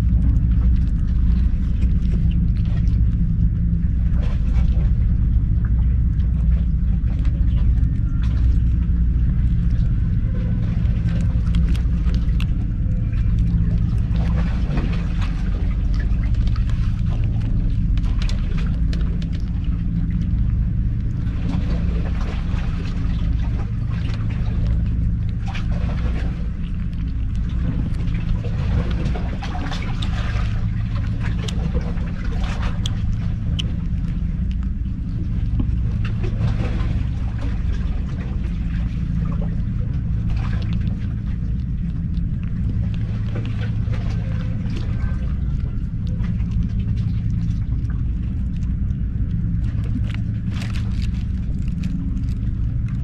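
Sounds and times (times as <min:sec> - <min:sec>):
kitten chewing wet food: 0:00.0 - 0:53.0
low mechanical hum: 0:00.0 - 0:53.0.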